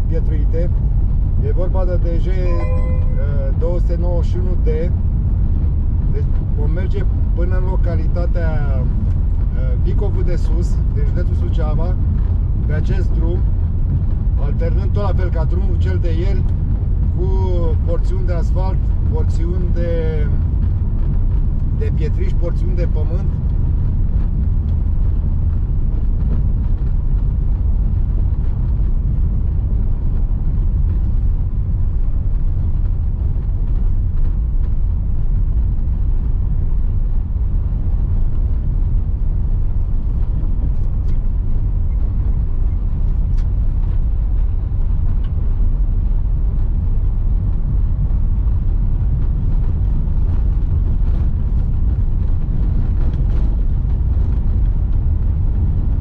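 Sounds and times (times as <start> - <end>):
car driving on gravel: 3.4 - 56.0.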